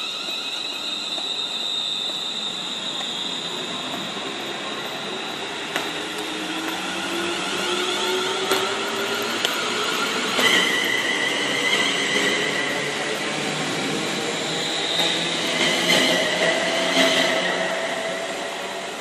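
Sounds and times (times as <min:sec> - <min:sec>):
electric train motors whining: 0:00.0 - 0:19.0.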